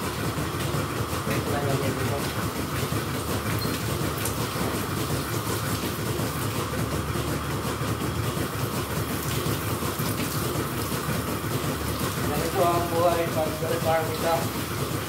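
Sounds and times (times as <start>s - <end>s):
milking plant running: 0.0s - 15.0s
water spraying: 0.0s - 15.0s.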